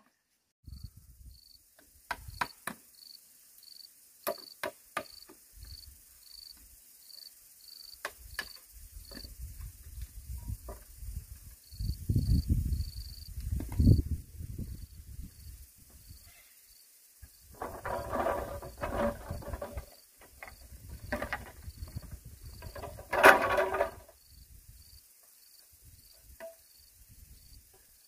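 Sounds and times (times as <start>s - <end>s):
insect chirping: 0.7s - 28.0s.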